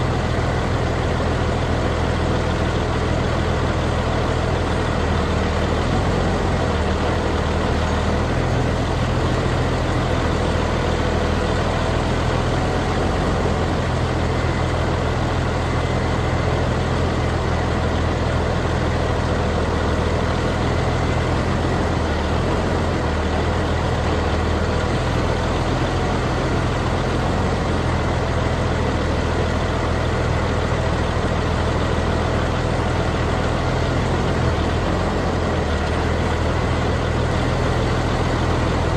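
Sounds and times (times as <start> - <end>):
large engine humming steadily: 0.0 - 38.9.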